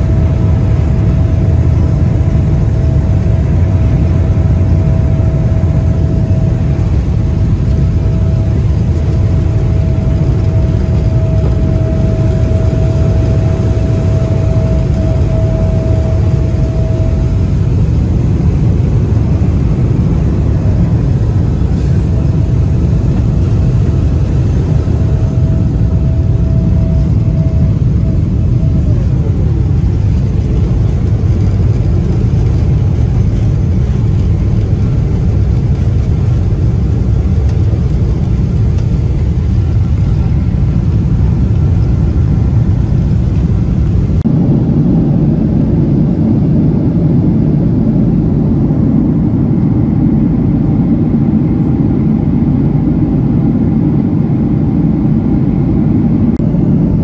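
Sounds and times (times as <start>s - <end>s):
jet engines and rushing air: 0.0s - 57.0s
thin steady whine: 0.0s - 57.0s.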